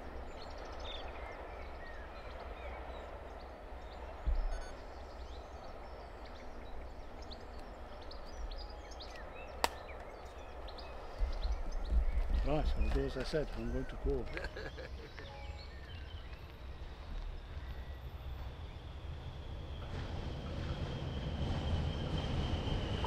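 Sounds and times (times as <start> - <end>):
birds chirping and singing: 0.0 - 18.9
wind rumbling on microphone: 0.0 - 23.0.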